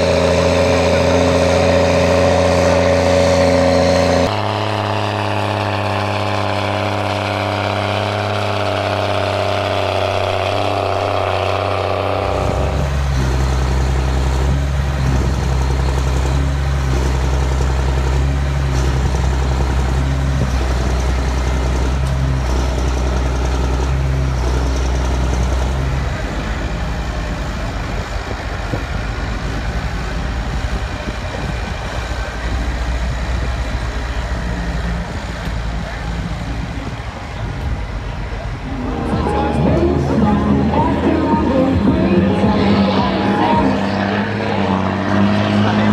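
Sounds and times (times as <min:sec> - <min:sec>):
tractor diesel engine: 0:00.0 - 0:45.9.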